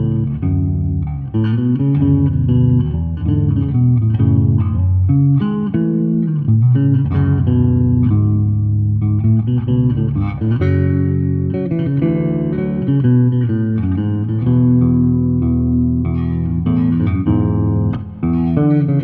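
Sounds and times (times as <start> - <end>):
solo electric bass chords: 0.0 - 19.0.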